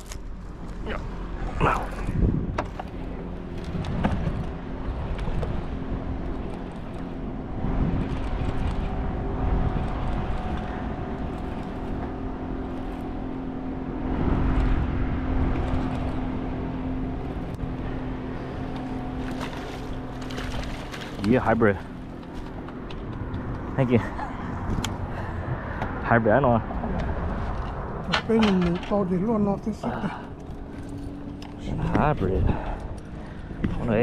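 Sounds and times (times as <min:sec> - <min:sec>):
steady mechanical hum: 0:00.0 - 0:34.0
wind rumbling on microphone: 0:00.0 - 0:34.0.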